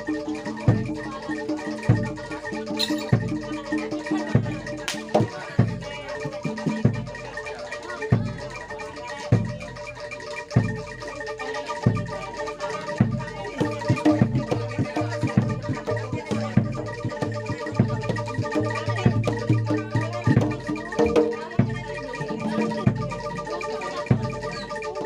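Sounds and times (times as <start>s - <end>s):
metal mallet instruments ringing: 0.0s - 25.0s.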